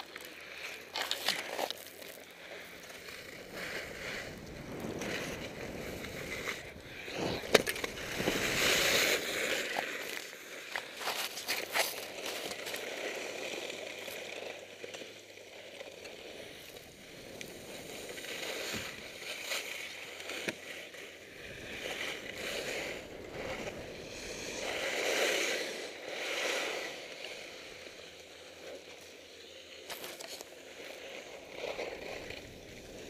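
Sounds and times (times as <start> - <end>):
skis scraping over snow: 0.0 - 33.0.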